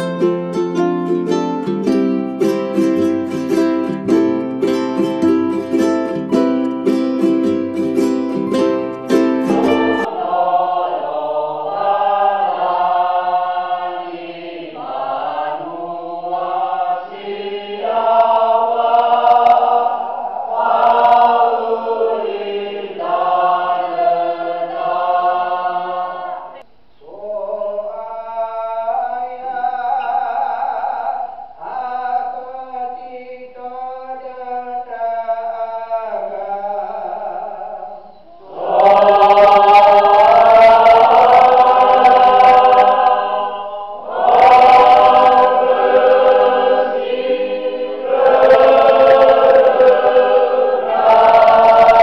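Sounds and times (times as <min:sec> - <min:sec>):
group singing a hymn: 0:00.0 - 0:52.0.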